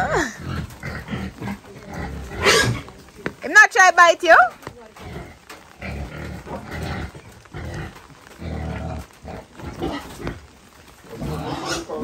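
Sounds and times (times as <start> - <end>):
pigs grunting: 0.0 - 3.1, 4.9 - 12.0.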